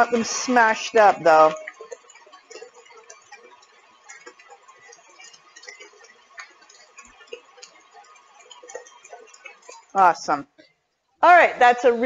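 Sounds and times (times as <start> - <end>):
mixer beater ticks and clicks: 0.0 - 10.4.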